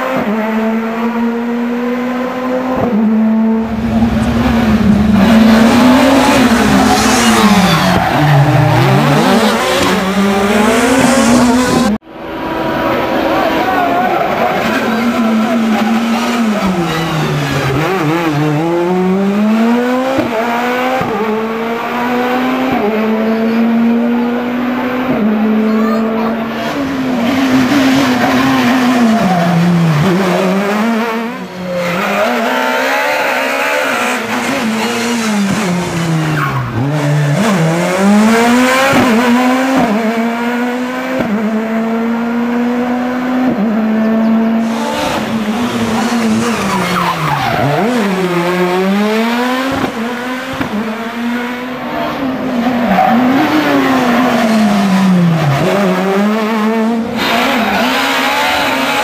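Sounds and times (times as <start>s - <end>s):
rally car engine revving hard: 0.0s - 59.0s.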